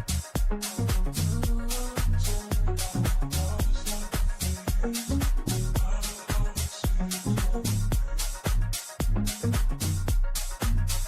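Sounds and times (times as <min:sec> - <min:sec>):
instrumental dance music: 0:00.0 - 0:11.0.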